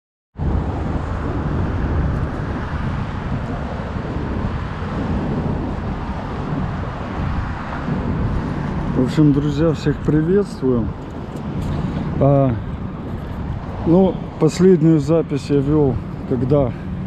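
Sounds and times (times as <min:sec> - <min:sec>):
outdoor noise: 0:00.4 - 0:17.0
wind buffeting microphone: 0:00.4 - 0:17.0.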